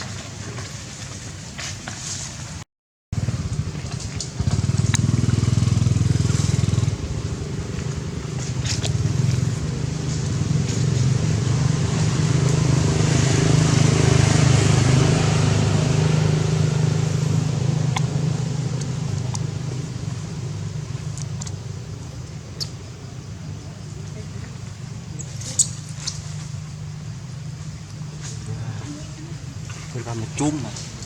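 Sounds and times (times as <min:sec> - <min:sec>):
low engine hum: 0:03.2 - 0:31.0.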